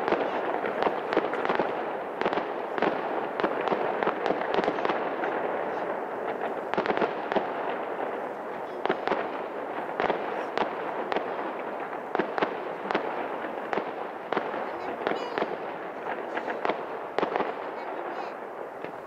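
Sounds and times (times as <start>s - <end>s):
fireworks bangs and pops: 0.0s - 19.0s
steady noisy background: 0.0s - 19.0s.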